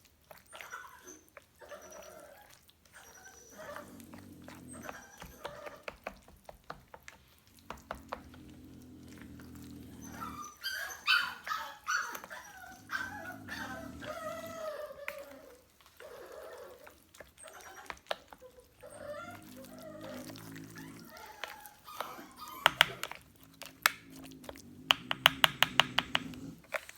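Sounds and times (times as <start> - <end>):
dog whining and yelping: 0.3 - 6.3, 9.0 - 26.9.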